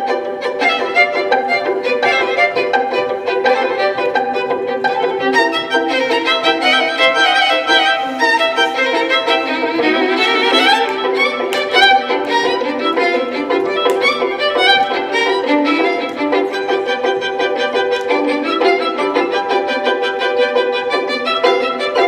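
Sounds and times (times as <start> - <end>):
violin music: 0.0 - 22.0.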